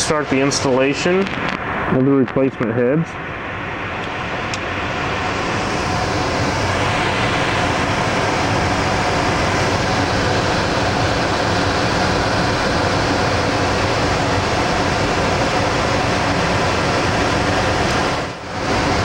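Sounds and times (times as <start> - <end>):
blower rushing air: 0.0 - 19.0.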